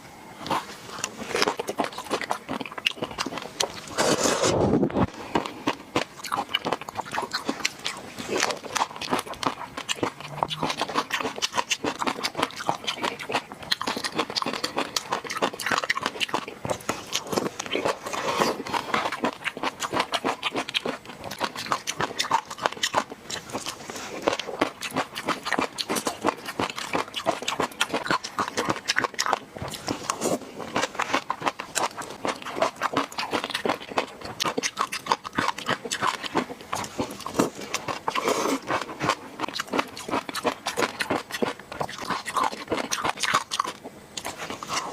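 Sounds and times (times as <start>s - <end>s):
close chewing and mouth smacking: 0.4s - 3.9s, 5.1s - 44.9s.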